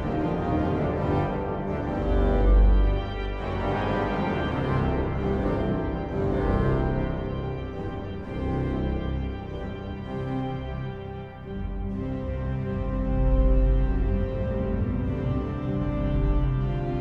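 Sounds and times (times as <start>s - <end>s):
organ playing: 0.0s - 17.0s.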